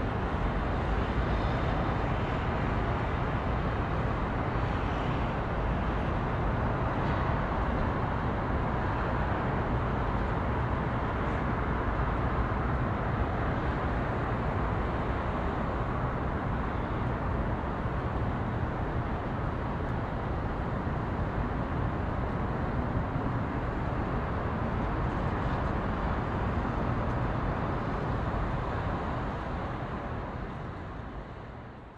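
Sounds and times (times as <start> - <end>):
urban traffic: 0.0 - 31.9.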